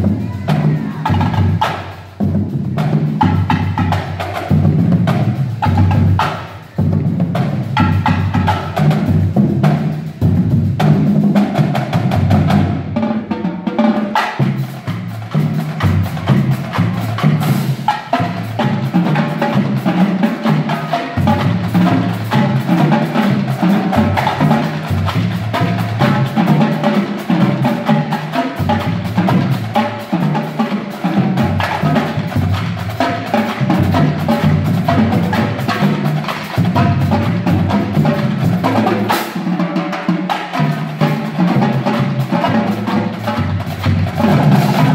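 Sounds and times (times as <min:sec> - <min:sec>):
marching bass drums: 0:00.0 - 0:44.9
snare drums: 0:00.0 - 0:44.9
tenor drums: 0:00.0 - 0:44.9.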